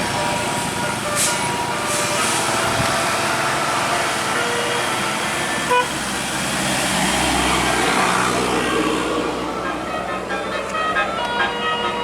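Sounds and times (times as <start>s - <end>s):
heavy vehicle deep engine rumble: 0.0s - 12.0s
road traffic engine and tyre noise: 0.0s - 12.0s.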